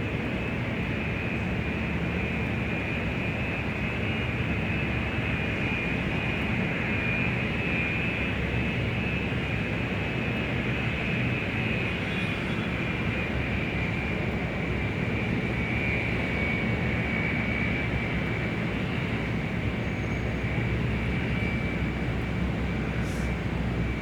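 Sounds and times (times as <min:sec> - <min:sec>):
constant high whine: 0:00.0 - 0:24.0
jet engines rumbling: 0:00.0 - 0:24.0.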